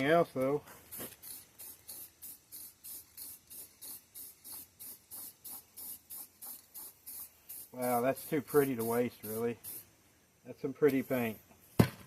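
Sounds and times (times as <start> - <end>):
aerosol spray can hissing: 0.7 - 10.0, 10.8 - 11.4.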